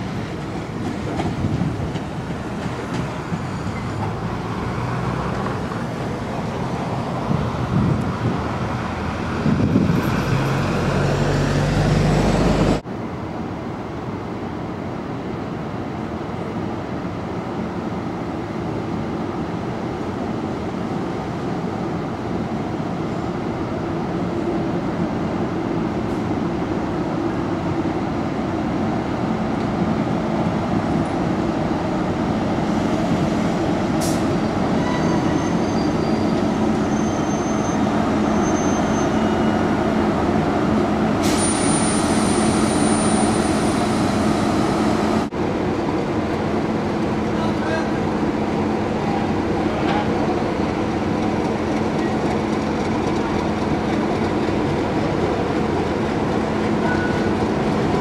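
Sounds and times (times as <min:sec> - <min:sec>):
diesel locomotive engine: 0:00.0 - 0:58.0
train rumble: 0:00.0 - 0:58.0.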